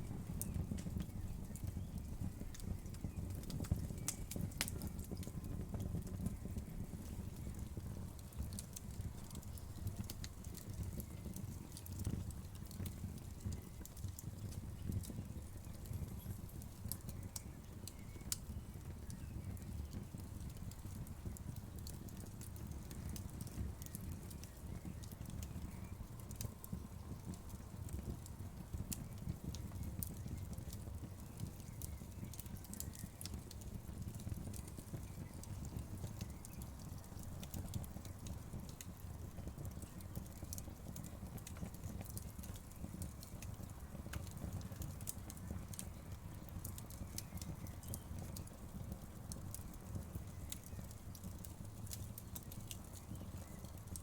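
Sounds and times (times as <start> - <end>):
burning wood crackling: 0.0 - 54.0
low rumble of flames: 0.0 - 54.0.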